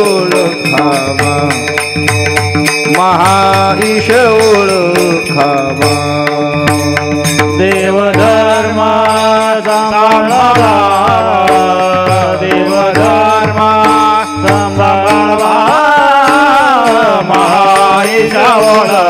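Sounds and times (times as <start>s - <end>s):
hand cymbals clashing: 0.0s - 19.0s
man singing: 0.0s - 19.0s.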